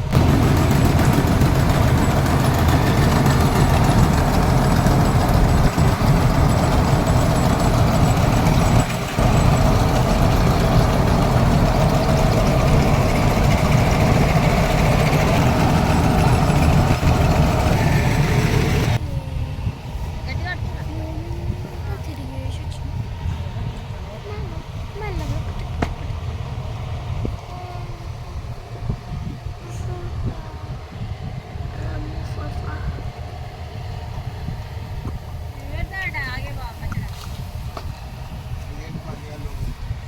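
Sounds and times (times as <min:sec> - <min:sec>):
combine harvester engine running: 0:00.0 - 0:40.0.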